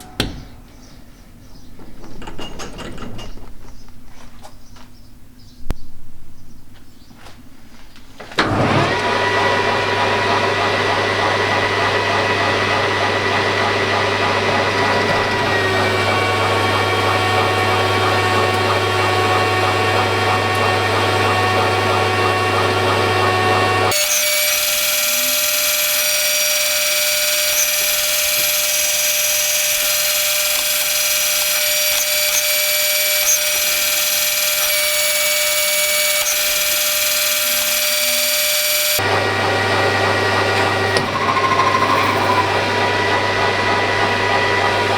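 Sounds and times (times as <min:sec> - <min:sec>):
power grinder grinding metal: 0:08.4 - 0:44.9.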